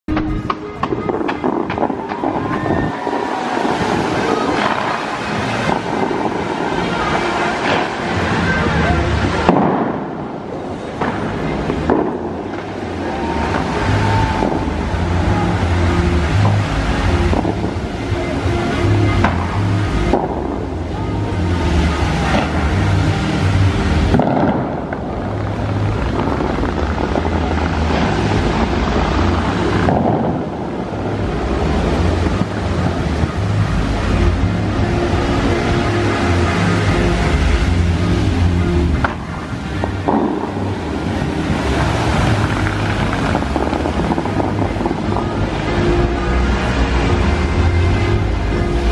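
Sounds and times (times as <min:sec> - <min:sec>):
fountain water rushing: 0:00.1 - 0:48.9.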